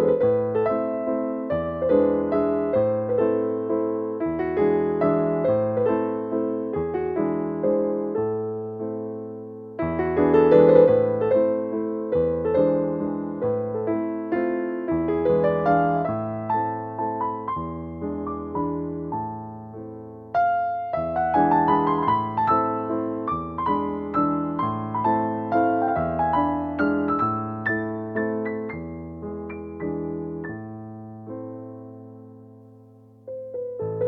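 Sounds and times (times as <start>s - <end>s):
calm piano music: 0.0s - 34.0s.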